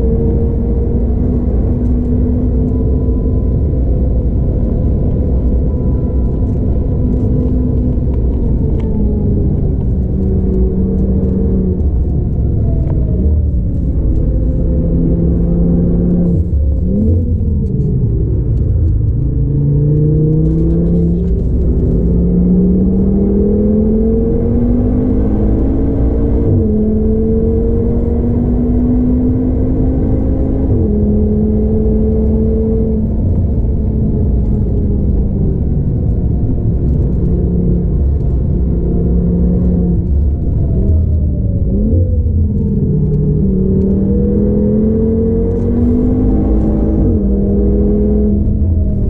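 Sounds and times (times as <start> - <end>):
turbocharged car engine revving: 5.9 - 36.1, 36.9 - 49.0.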